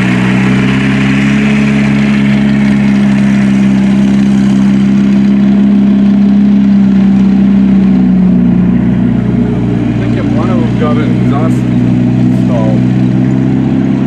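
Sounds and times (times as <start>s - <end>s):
tank engine driving past: 0.0s - 14.0s.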